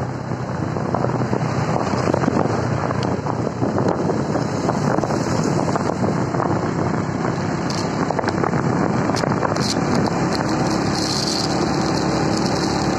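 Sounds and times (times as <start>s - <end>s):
motorbike engine running: 0.0s - 12.9s
wind rushing over microphone: 0.0s - 12.9s.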